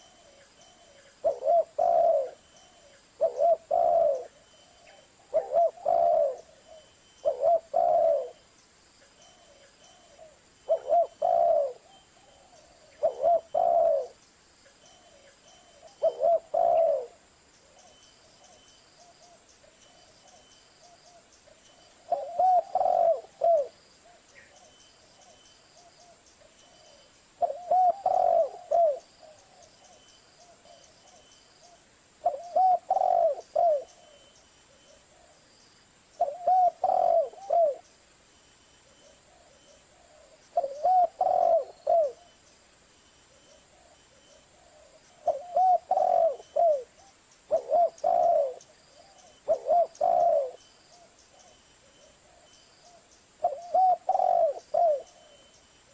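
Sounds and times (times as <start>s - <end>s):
dove cooing: 0.0s - 8.4s, 9.2s - 14.2s, 14.9s - 19.4s, 20.0s - 35.4s, 36.1s - 37.9s, 38.8s - 42.4s, 43.3s - 55.9s.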